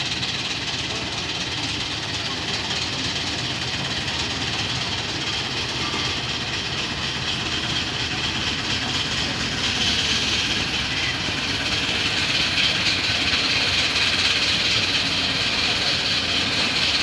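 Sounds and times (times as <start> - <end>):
miniature train rumbling on rails: 0.0 - 17.0.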